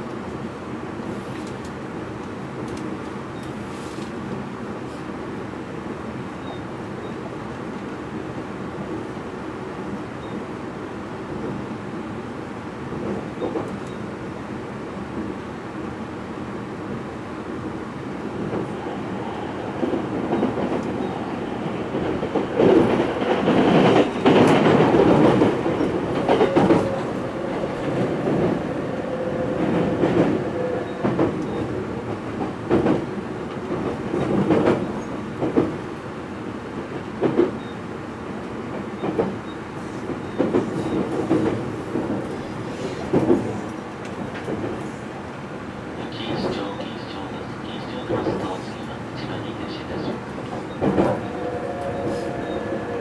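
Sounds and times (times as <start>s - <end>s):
rumble of train wheels on rail: 0.0s - 53.0s.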